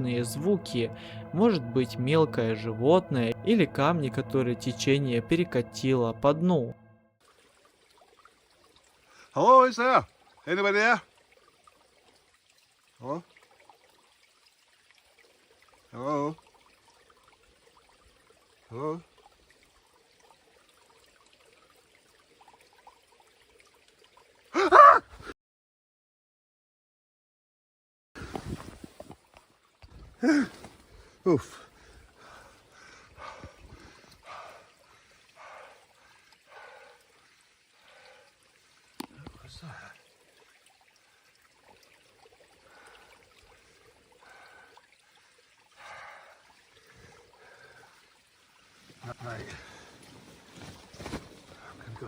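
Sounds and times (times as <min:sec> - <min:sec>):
faint trickling stream: 0:07.2 - 0:25.3, 0:28.2 - 0:52.0.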